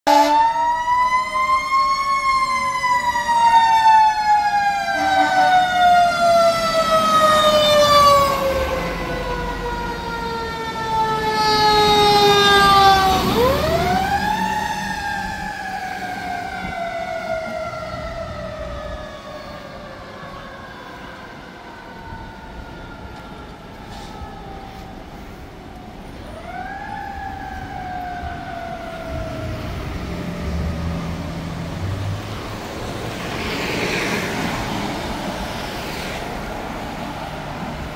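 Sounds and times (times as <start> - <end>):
fire engine siren wailing: 0.0 - 37.9.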